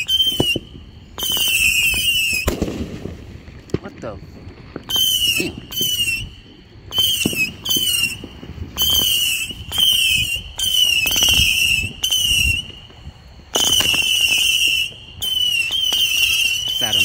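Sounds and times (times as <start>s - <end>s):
firework whistling: 0.0s - 17.0s.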